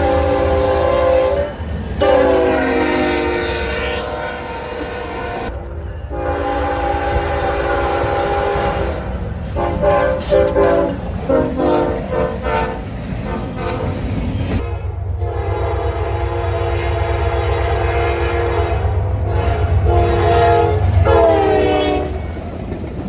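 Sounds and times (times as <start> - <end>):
locomotive air horn: 0.0 - 14.0, 14.6 - 22.2
low rumble of passing train: 0.0 - 23.0.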